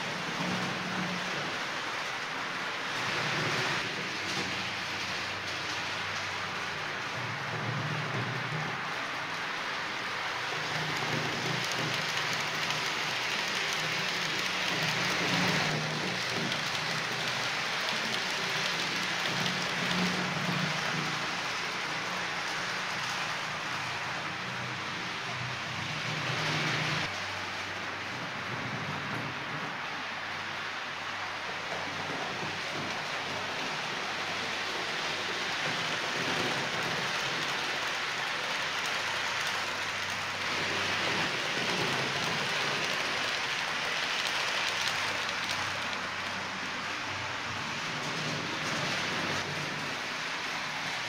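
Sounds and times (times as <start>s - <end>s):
model train wheels hissing on rails: 0.0s - 51.0s.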